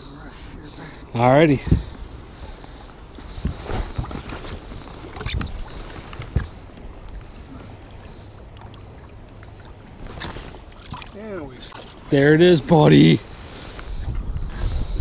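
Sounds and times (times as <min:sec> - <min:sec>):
water sloshing against a boat: 0:00.0 - 0:15.0.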